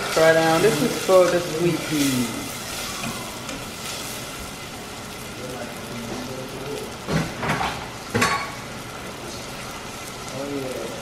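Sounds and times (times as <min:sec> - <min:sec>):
onions sizzling in butter: 0:00.0 - 0:11.0.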